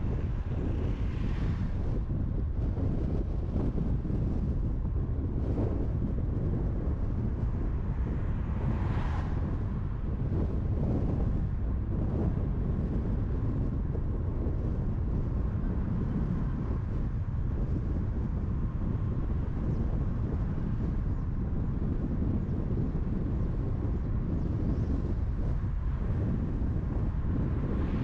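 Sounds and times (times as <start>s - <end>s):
tyres rumbling on highway: 0.0s - 28.0s
wind noise: 0.0s - 28.0s.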